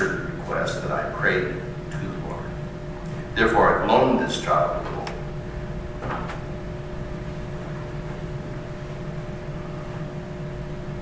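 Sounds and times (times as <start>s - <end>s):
room tone hum: 0.0s - 11.0s.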